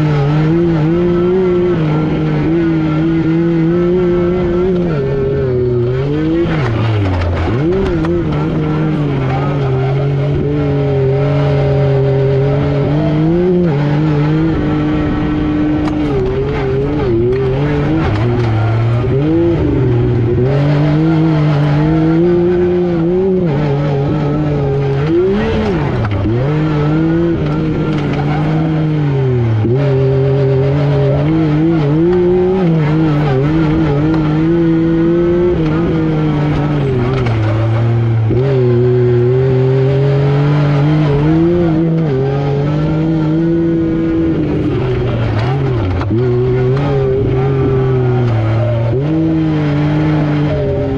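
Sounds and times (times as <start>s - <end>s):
engine revving hard: 0.0s - 50.9s.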